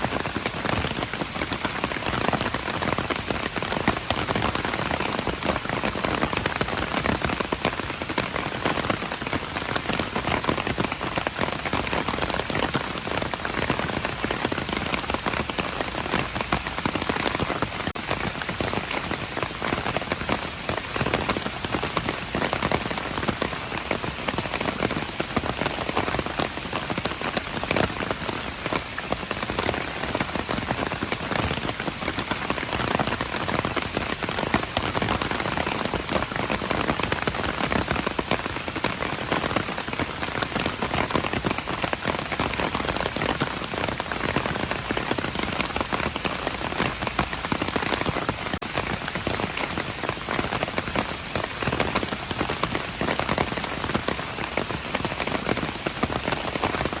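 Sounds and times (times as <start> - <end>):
rain on hard surfaces: 0.0 - 57.0.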